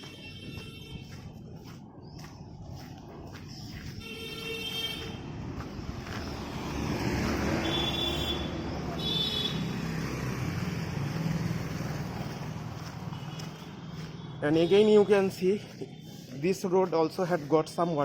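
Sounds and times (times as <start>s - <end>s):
trucks passing on road: 0.0s - 18.0s.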